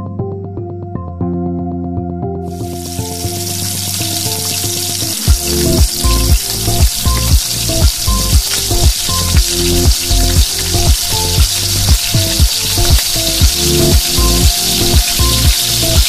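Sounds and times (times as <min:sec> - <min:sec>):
background music with beat: 0:00.0 - 0:16.0
meat sizzling in hot oil: 0:02.6 - 0:16.0.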